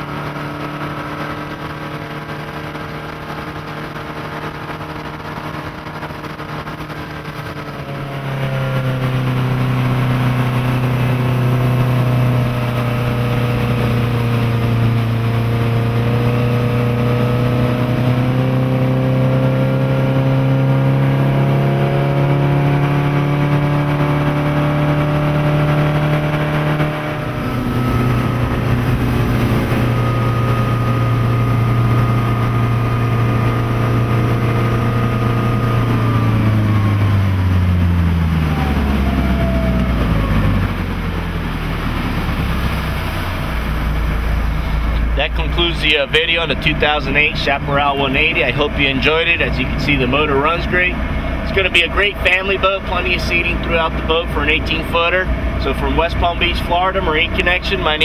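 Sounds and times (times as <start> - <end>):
boat engine running: 0.0 - 58.0
rushing water: 0.0 - 58.0
wind: 0.0 - 58.0.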